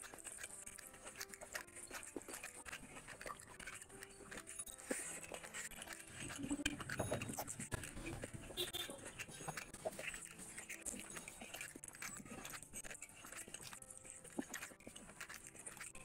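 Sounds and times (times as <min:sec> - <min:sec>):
food squelching by hand: 0:00.0 - 0:16.0
wet chewing and lip-smacking: 0:00.0 - 0:16.0.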